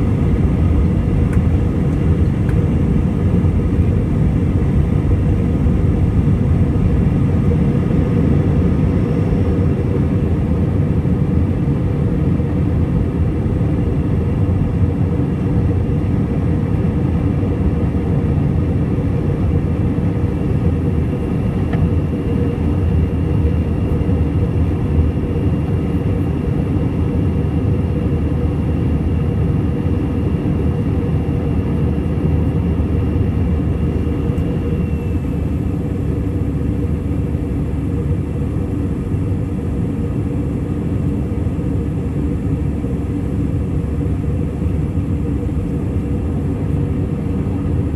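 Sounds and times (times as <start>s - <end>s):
high engine whine: 0.0s - 47.9s
jet engines rumbling: 0.0s - 47.9s.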